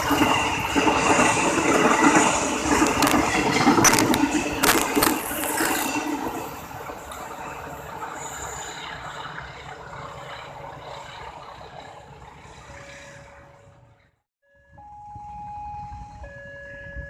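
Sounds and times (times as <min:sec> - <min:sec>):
train wheels clacking over rail joints: 0:00.0 - 0:13.9
train rumble: 0:00.0 - 0:14.2.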